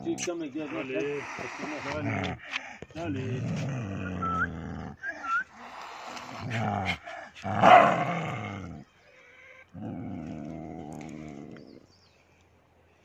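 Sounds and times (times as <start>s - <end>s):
snow leopard snarling and growling: 0.0s - 8.8s, 9.7s - 11.9s.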